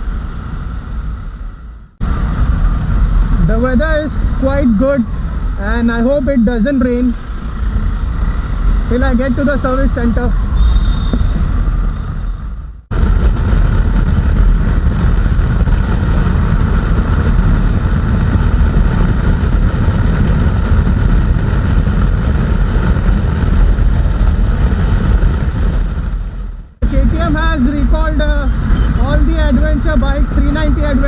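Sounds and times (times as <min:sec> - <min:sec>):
motorcycle engine: 0:00.0 - 0:31.0
road noise: 0:00.0 - 0:31.0
wind rush over microphone: 0:00.0 - 0:31.0.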